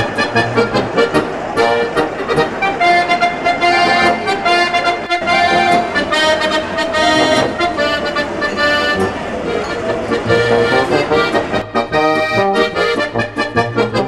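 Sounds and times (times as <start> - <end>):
accordion playing: 0.0 - 14.0.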